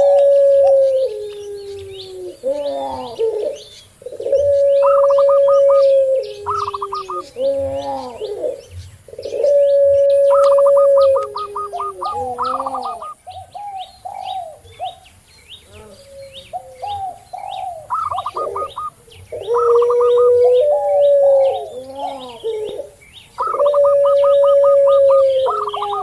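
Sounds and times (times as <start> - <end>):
dove purring trills: 0.0 - 15.0, 15.6 - 26.0
doves cooing: 0.0 - 15.0, 15.6 - 26.0
small birds chirping: 0.0 - 26.0.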